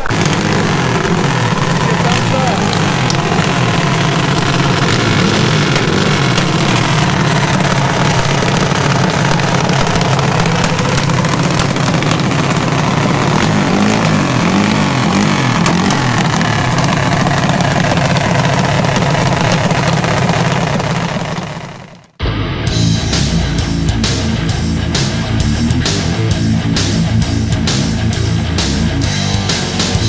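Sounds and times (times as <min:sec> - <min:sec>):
loud car engine idling: 0:00.0 - 0:30.0.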